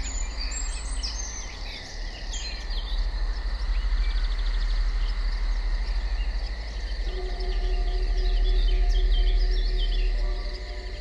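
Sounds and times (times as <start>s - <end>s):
birds chirping: 0.0s - 11.0s
deep pulsing low drone: 0.0s - 11.0s
insects: 0.0s - 11.0s.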